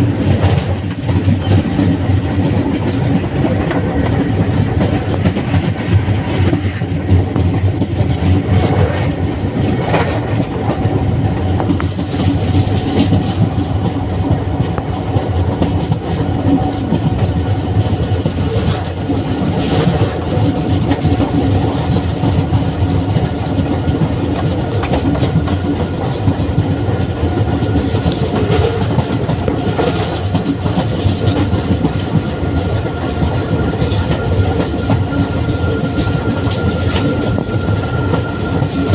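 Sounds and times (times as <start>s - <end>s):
train wheels rumbling on rails: 0.0s - 38.9s
wheels clicking over rail joints: 0.0s - 38.9s.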